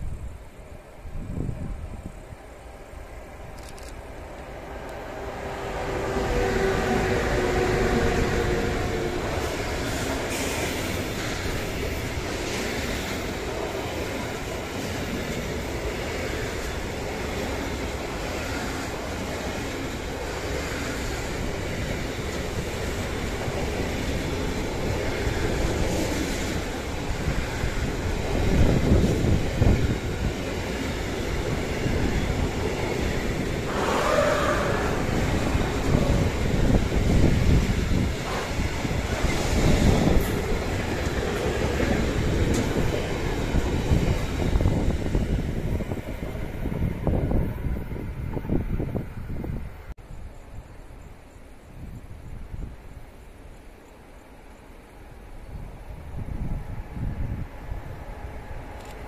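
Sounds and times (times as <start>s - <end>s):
wind gusts on microphone: 0.0s - 53.2s, 55.4s - 59.0s
electric locomotive whine: 0.0s - 59.0s.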